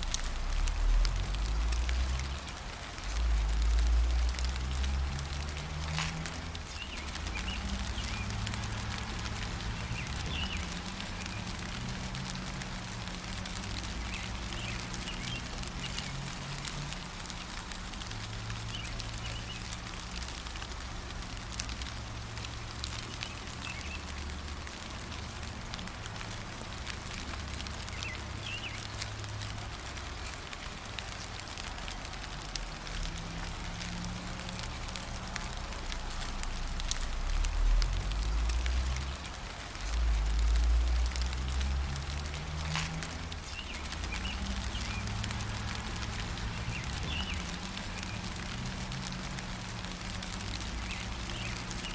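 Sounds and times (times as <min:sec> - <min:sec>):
gentle rain patter: 0:00.0 - 0:51.9.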